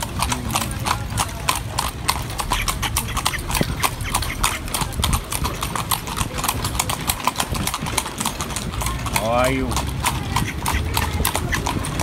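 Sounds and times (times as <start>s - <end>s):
horse hooves clip-clopping on pavement: 0.0s - 12.0s.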